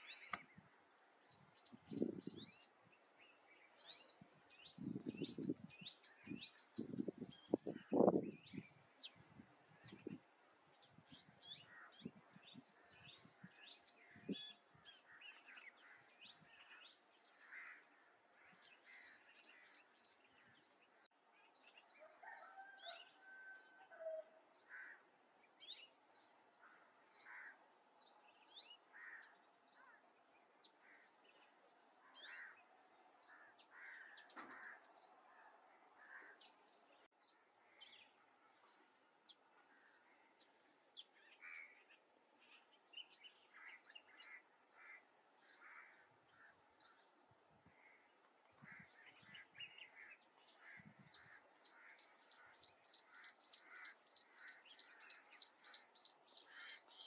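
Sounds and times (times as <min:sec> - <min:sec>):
faint bird chirps and calls: 0:00.0 - 0:57.0.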